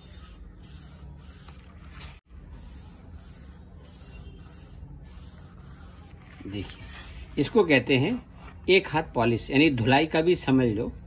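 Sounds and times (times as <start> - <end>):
hand rubbing wood: 0.0 - 9.0.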